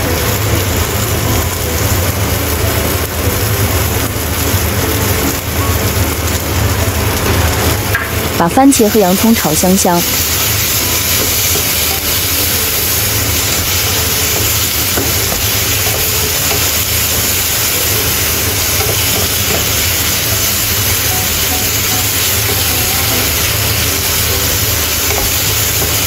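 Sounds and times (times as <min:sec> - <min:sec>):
vegetables sizzling in a pan: 0:00.0 - 0:26.0.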